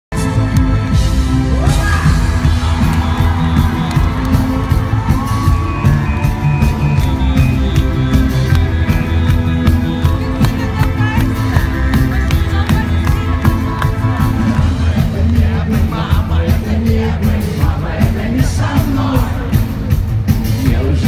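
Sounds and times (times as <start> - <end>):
rock band playing loudly: 0.1 - 21.0.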